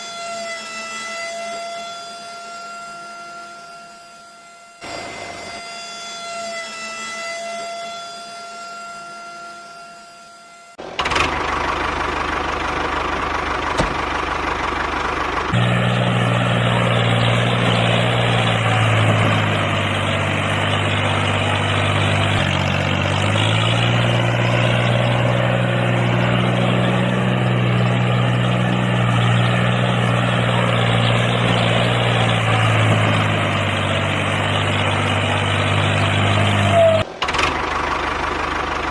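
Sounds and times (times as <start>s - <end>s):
small motor humming drone: 0.0s - 11.0s, 15.5s - 37.1s.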